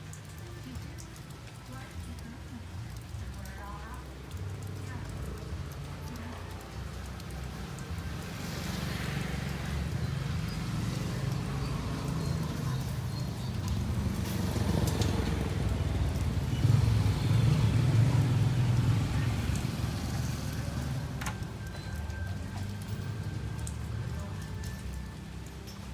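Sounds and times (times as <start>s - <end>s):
vehicle engine rumble: 0.0s - 25.9s.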